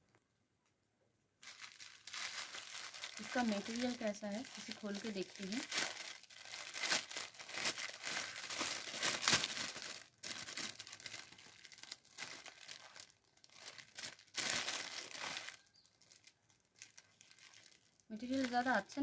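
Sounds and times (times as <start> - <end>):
plastic bag crinkling: 1.4 - 19.0.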